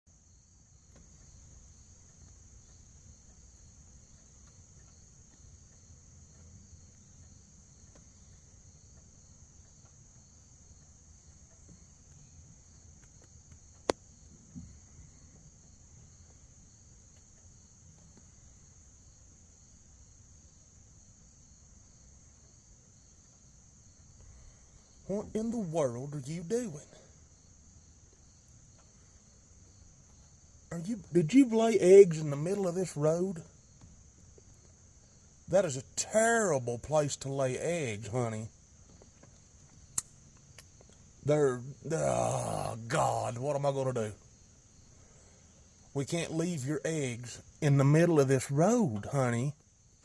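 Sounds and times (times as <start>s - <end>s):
crickets trilling: 0.1s - 50.0s.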